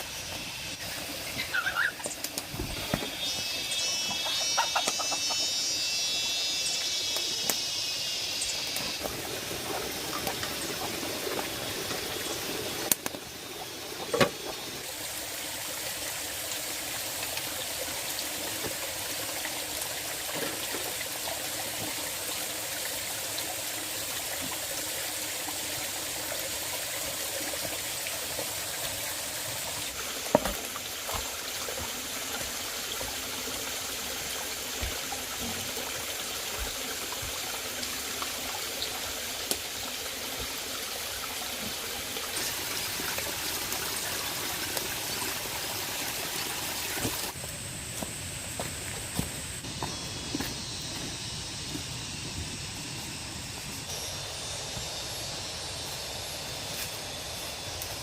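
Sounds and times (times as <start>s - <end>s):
running water rushing: 6.2s - 58.0s.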